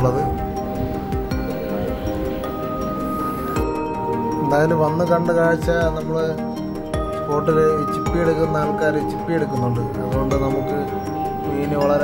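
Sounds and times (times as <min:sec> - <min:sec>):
soft sustained background music: 0:00.0 - 0:12.0.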